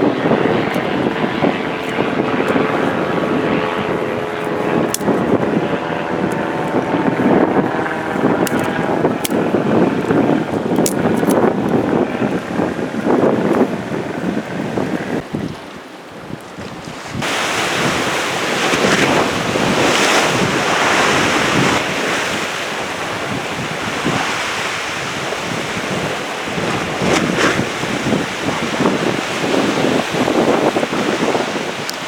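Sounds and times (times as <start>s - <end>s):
sea waves washing on shore: 0.0s - 32.0s
wind buffeting microphone: 0.0s - 32.0s.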